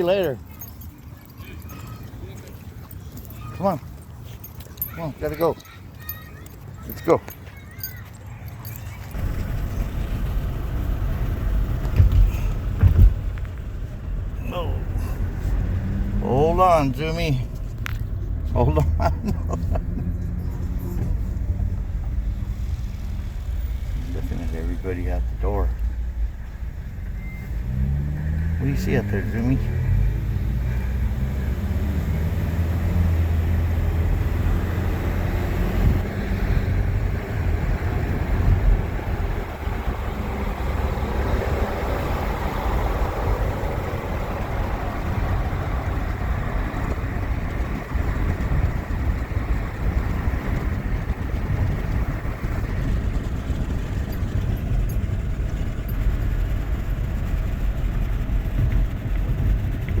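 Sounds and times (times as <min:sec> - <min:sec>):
low vehicle rumble: 0:00.0 - 1:00.0.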